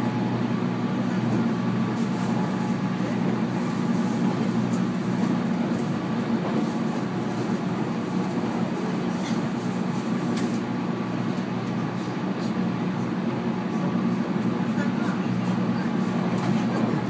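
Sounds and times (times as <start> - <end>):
rumble of wheels on rail: 0.0 - 17.0.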